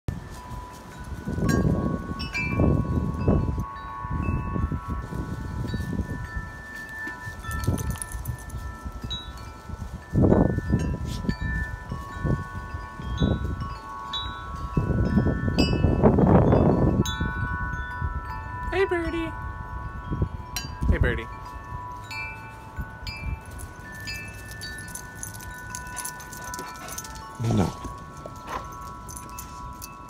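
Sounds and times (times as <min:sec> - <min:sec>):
wind chimes ringing: 0:00.1 - 0:30.0
wind gusts on microphone: 0:00.1 - 0:30.0.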